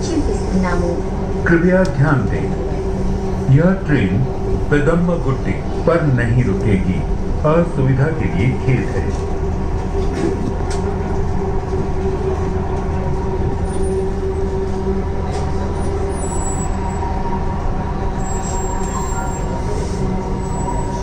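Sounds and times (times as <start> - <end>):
constant hum: 0.0 - 21.0
metro train rumbling: 0.0 - 21.0.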